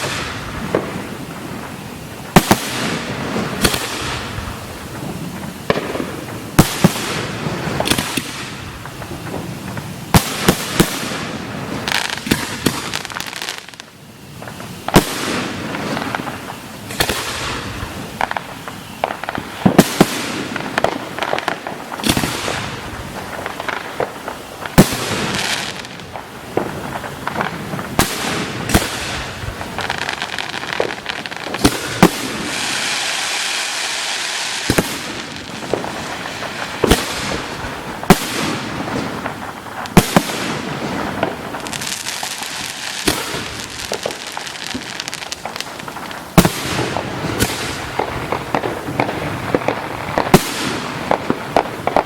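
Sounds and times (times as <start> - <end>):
fireworks bursting with bangs: 0.0 - 52.0
fireworks crackling: 0.0 - 52.0.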